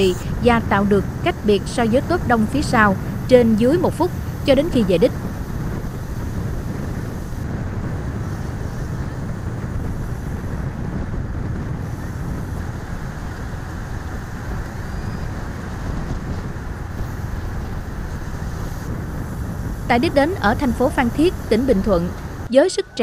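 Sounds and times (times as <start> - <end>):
road and vehicle rumble: 0.0 - 23.0
wind noise on microphone: 0.0 - 23.0.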